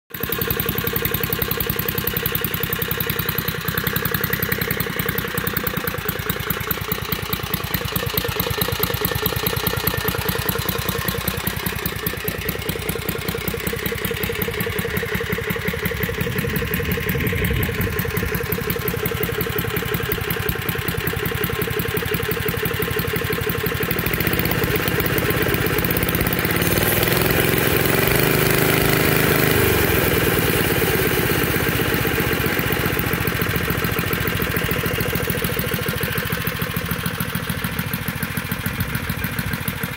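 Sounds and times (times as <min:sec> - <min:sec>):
small engine idling: 0:00.1 - 0:39.9.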